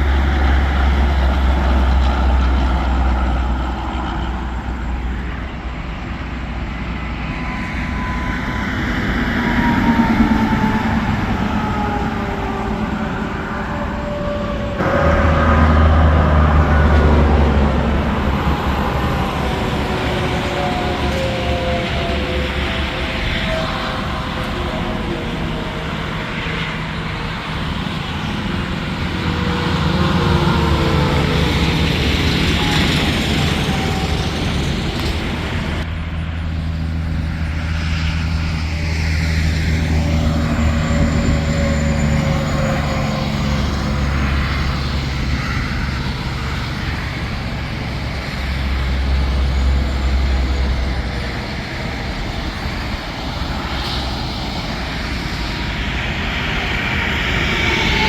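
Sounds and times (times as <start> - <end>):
heavy trucks passing: 0.0 - 58.0.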